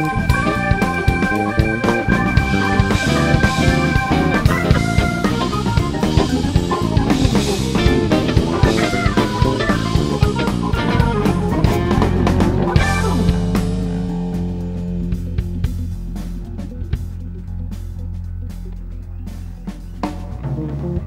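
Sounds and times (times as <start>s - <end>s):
drum kit beat: 0.0s - 21.0s
electric bass: 0.0s - 21.0s
electric guitar: 0.0s - 21.0s
organ: 0.0s - 21.0s.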